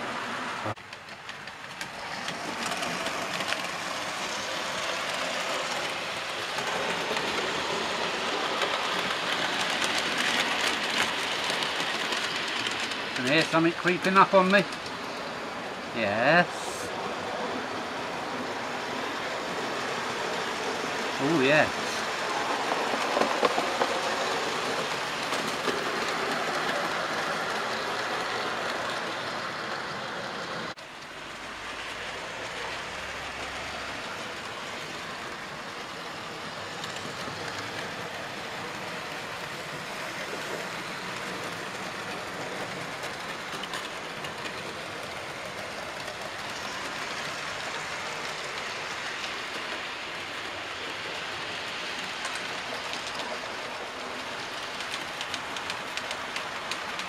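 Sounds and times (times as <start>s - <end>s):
model train wheels rumbling on rail: 0.0s - 57.0s.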